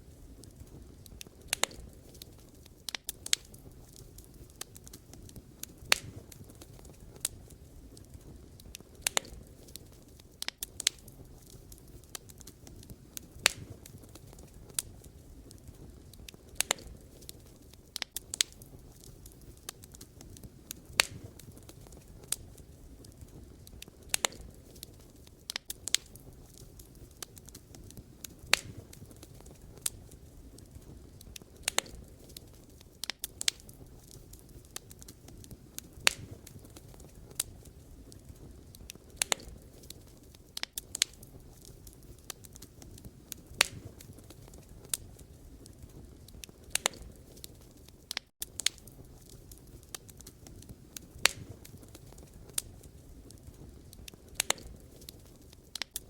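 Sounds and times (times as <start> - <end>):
burning logs crackling: 0.0 - 56.0
low rumble of flame: 0.0 - 56.0.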